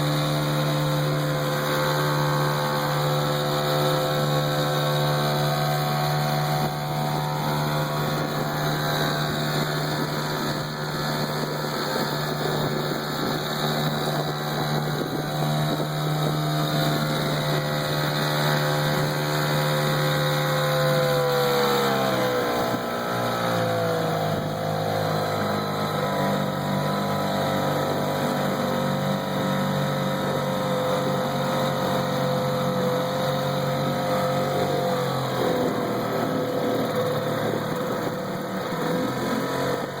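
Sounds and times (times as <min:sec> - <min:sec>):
outboard motor running: 0:00.0 - 0:40.0.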